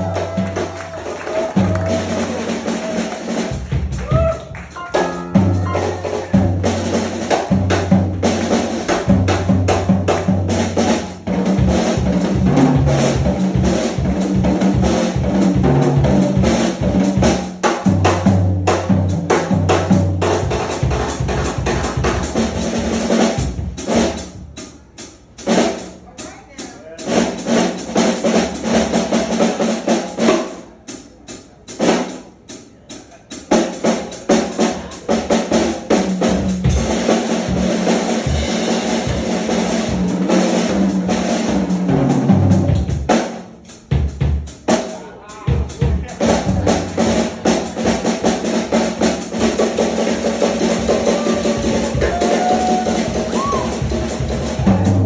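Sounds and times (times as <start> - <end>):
drums: 0.0 - 55.0
jazz band playing: 0.0 - 55.0.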